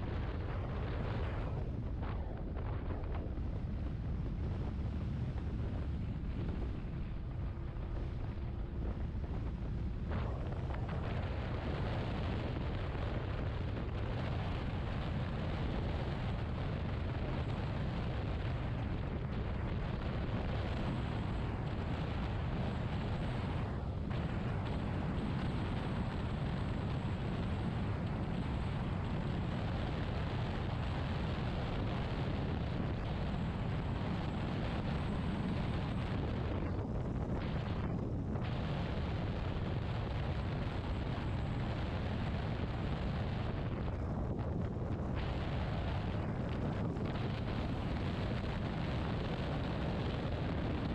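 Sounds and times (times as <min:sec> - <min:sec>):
wind rumble on microphone: 0:00.0 - 0:50.9.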